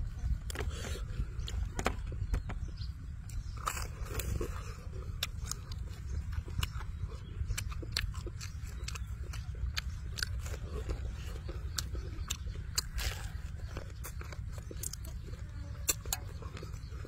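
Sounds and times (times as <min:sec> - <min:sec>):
chewing crispy fried chicken: 0:00.0 - 0:17.0
steady low rumble: 0:00.0 - 0:17.0.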